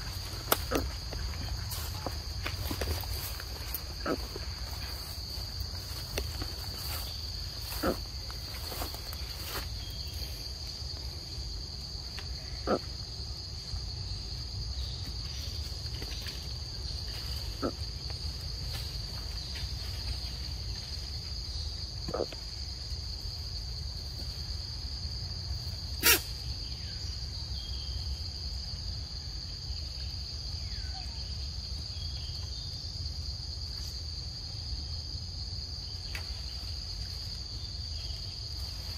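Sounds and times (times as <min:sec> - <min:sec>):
insect chorus drone: 0:00.0 - 0:38.9.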